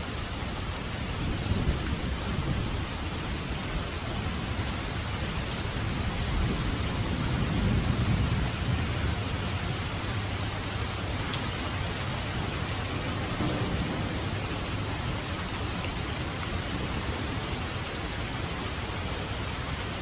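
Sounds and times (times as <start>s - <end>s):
steady rain falling: 0.0s - 20.0s
thunder rumbling: 1.0s - 19.2s.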